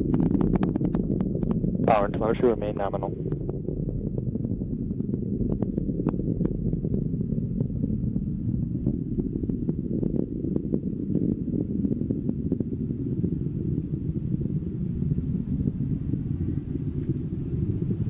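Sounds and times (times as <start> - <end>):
rocket engines roaring and crackling: 0.0 - 18.0.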